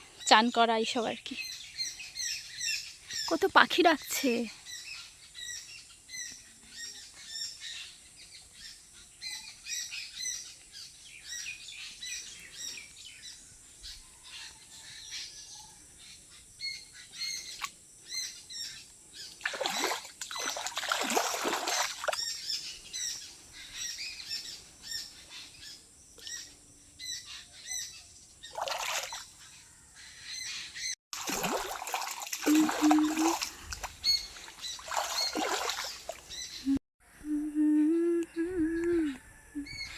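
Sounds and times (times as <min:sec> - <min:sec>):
small birds chirping: 0:00.0 - 0:21.0, 0:21.7 - 0:31.0, 0:32.4 - 0:39.9.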